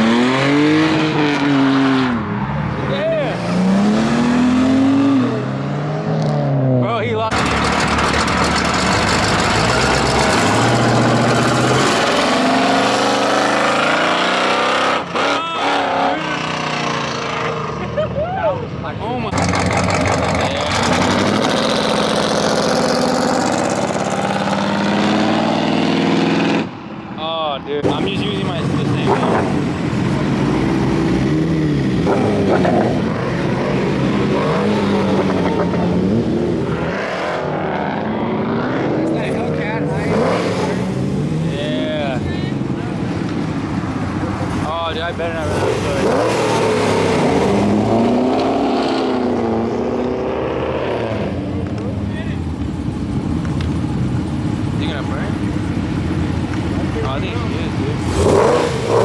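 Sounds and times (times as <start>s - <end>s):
car engine at high revs: 0.0s - 18.0s, 19.0s - 27.1s, 27.8s - 59.0s.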